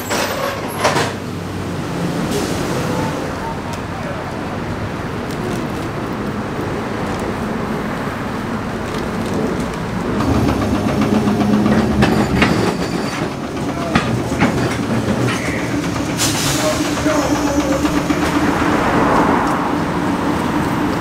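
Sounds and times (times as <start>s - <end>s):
streetcar motor hum: 0.0s - 21.0s
wheels clacking on track: 0.0s - 21.0s.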